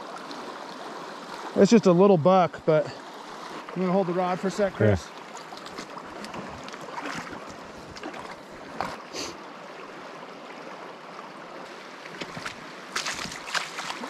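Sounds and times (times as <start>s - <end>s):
river water running over gravel: 0.0s - 14.0s
water splashes: 0.0s - 14.0s.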